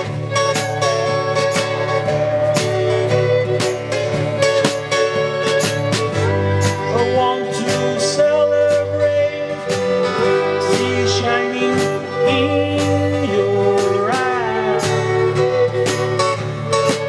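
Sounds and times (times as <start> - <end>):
country band music with guitar: 0.0 - 17.0.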